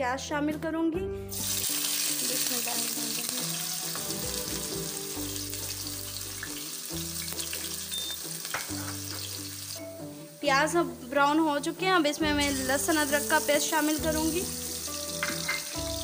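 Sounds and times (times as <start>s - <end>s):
onions sizzling in oil: 1.3s - 11.8s, 12.4s - 16.0s.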